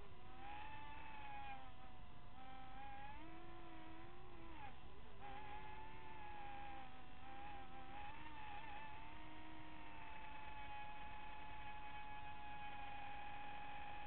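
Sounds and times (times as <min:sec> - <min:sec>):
drone propeller motors whining: 0:00.0 - 0:14.0.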